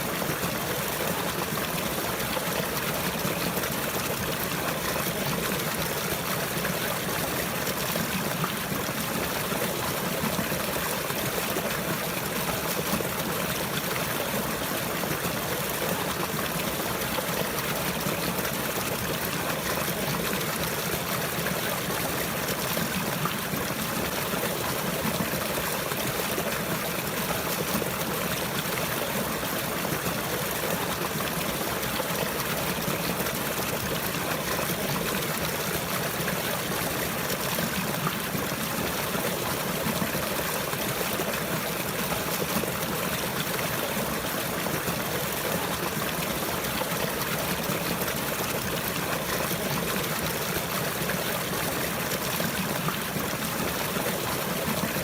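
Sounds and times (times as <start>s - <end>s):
trickling stream: 0.0s - 55.0s.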